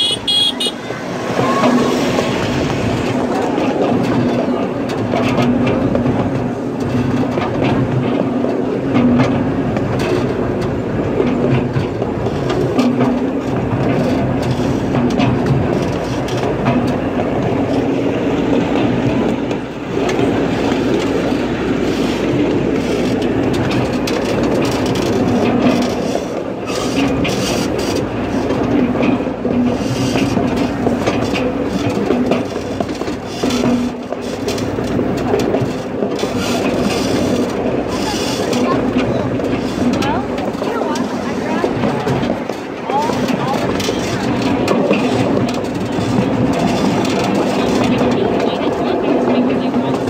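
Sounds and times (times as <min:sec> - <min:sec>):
miniature train rumbling on track: 0:00.0 - 0:50.0.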